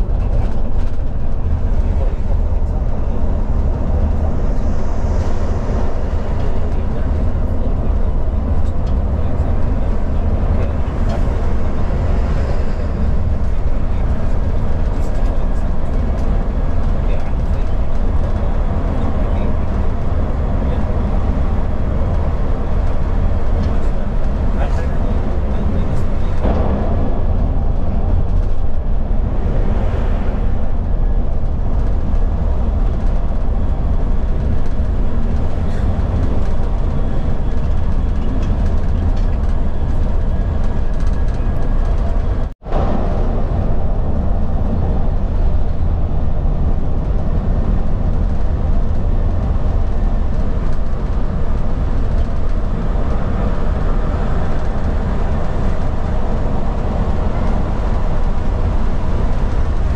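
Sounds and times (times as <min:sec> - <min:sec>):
rumble of tyres on road: 0:00.0 - 0:59.9.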